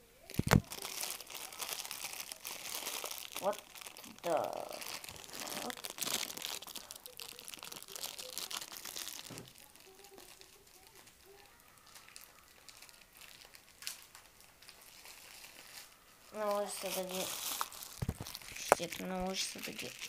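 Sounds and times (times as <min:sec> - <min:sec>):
crinkling and rustling handling noise: 0:00.2 - 0:20.0.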